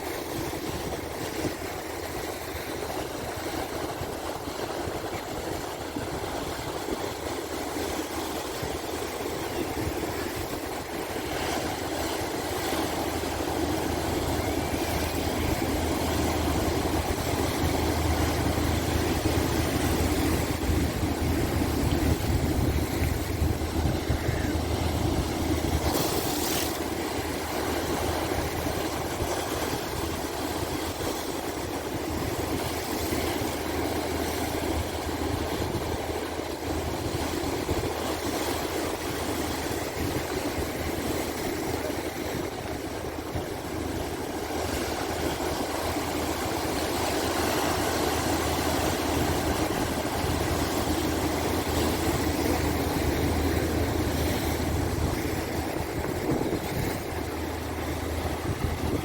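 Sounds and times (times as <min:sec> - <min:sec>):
calm sea waves washing: 0:00.0 - 0:59.0.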